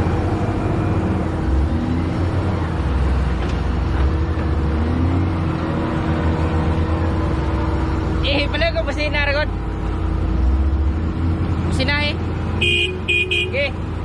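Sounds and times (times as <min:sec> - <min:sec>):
heavy machine engine drone: 0:00.0 - 0:14.0.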